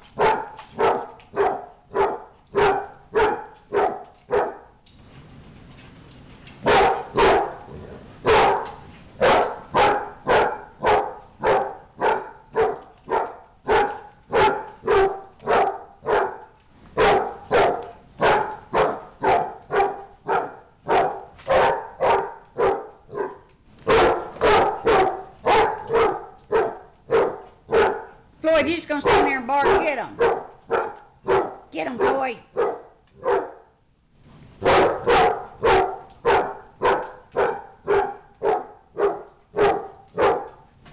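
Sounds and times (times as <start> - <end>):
dog barking: 0.1 - 4.8, 6.6 - 28.2, 28.9 - 33.8, 34.6 - 40.7.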